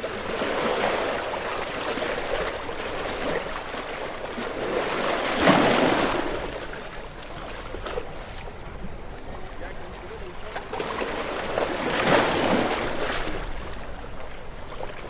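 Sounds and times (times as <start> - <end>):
waves breaking on rocky shore: 0.0 - 15.0.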